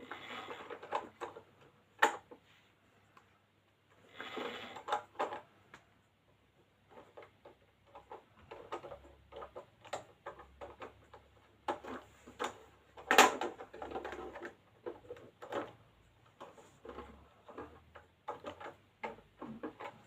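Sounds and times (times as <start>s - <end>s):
plastic toy clicks and rattles: 0.0s - 2.4s, 4.3s - 5.5s, 6.8s - 20.0s.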